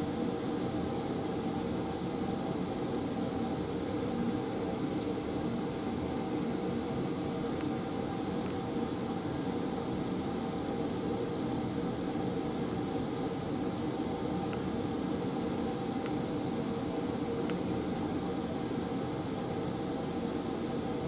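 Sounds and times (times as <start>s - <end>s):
fume hood exhaust airflow: 0.0s - 21.0s.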